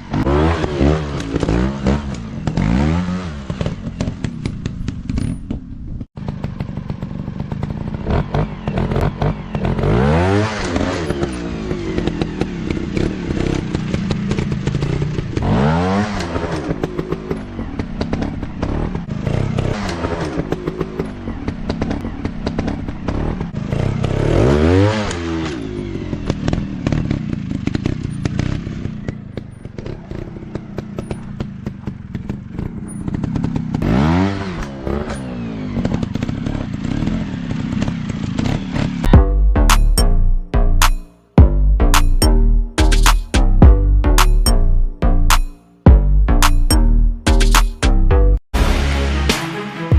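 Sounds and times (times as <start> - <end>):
dirt bike engine revving: 0.0 - 4.4, 6.2 - 47.9.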